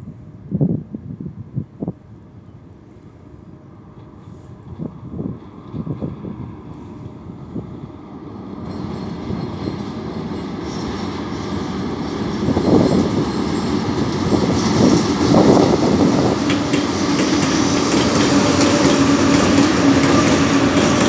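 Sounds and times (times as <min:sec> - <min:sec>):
freight train crossing steel bridge: 0:00.0 - 0:21.0.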